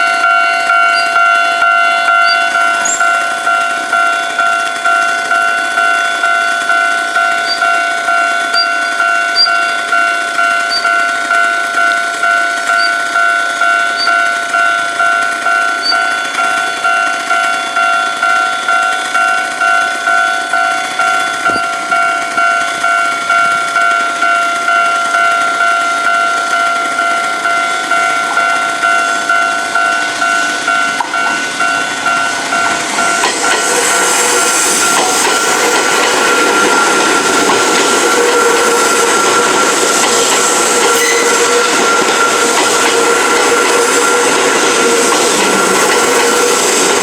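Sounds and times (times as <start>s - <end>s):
level crossing warning bell: 0.0s - 47.0s
train passing: 0.0s - 47.0s.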